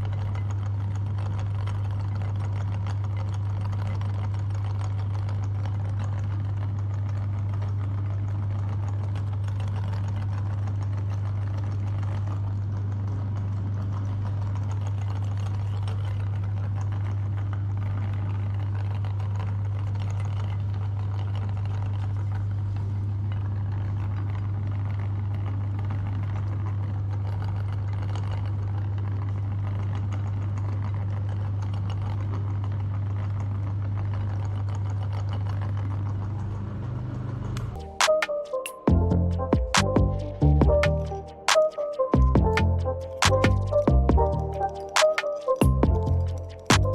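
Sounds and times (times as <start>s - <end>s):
mechanical rattle: 0.0s - 38.6s, 41.0s - 46.9s.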